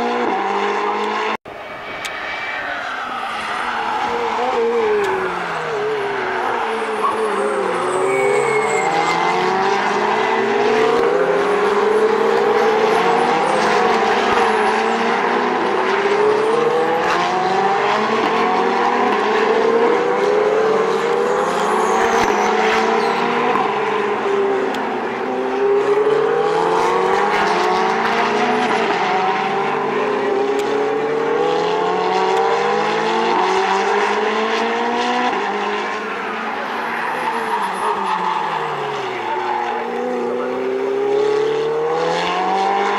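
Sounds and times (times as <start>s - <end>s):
race car engines at full throttle: 0.0s - 42.9s.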